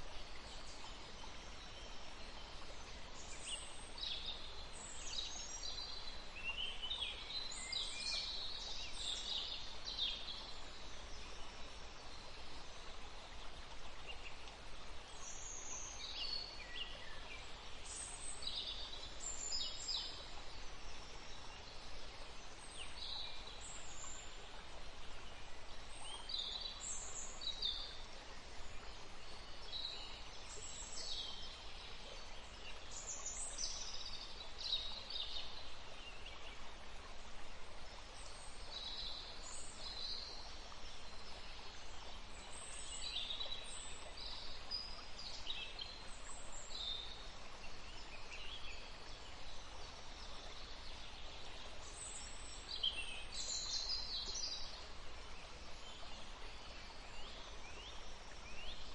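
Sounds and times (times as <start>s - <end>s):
forest stream rushing: 0.0s - 58.9s.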